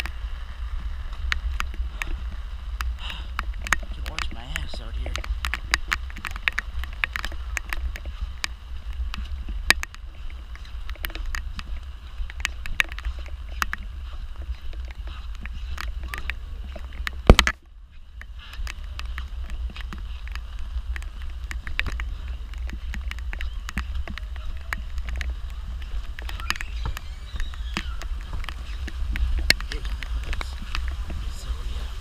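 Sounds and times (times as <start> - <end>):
wind buffeting microphone: 0.0 - 32.0
sharp clicks and taps: 2.8 - 31.2.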